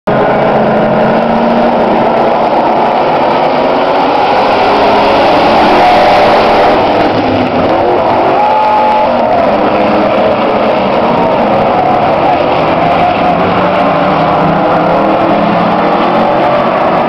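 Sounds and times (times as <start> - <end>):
pickup truck engines running: 0.1 - 17.0.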